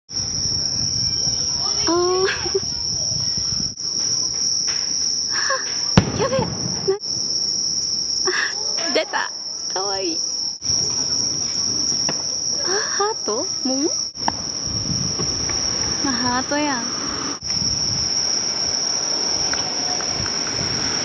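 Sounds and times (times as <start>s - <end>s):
crickets chirping: 0.1s - 21.0s.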